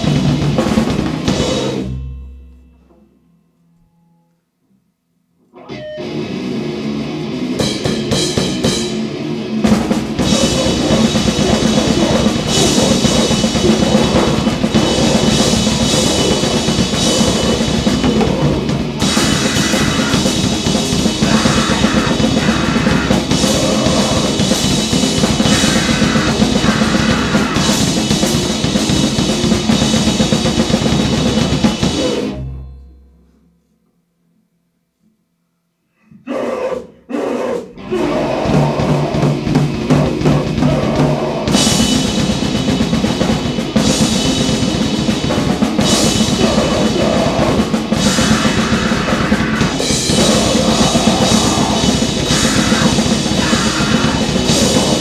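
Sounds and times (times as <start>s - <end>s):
drum kit: 0.0s - 3.0s, 6.2s - 32.7s, 37.8s - 55.0s
distorted guitar: 0.0s - 4.4s, 5.4s - 33.5s, 37.8s - 55.0s.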